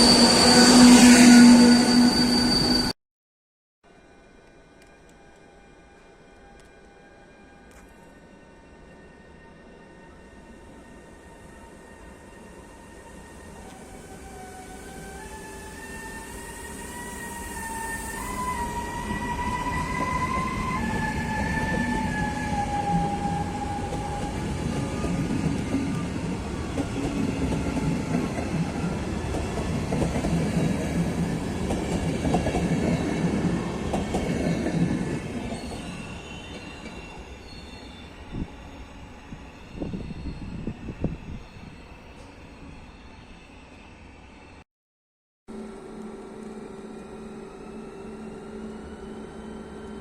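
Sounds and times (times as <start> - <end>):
electric locomotive whine: 0.0 - 2.9, 3.9 - 44.6, 45.5 - 50.0.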